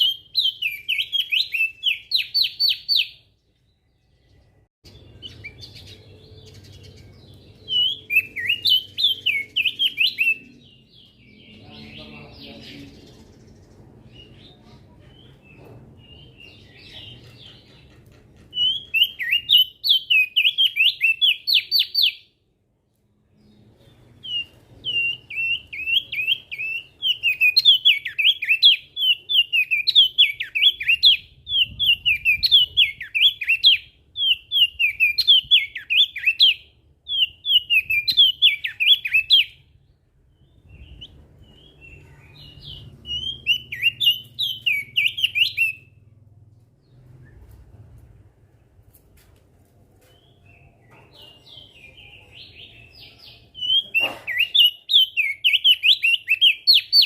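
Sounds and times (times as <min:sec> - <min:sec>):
bird singing rapid chattering phrases: 0:00.0 - 0:22.4, 0:23.3 - 0:46.1, 0:50.1 - 0:57.0.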